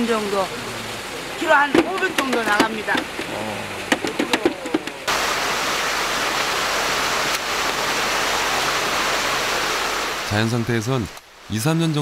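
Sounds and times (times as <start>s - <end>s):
water pouring and churning: 0.0s - 12.0s.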